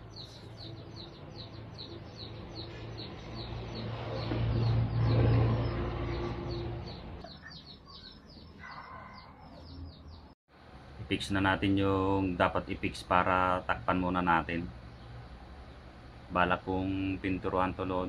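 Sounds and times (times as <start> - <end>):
bird chirping: 0.0 - 10.4, 12.2 - 18.0.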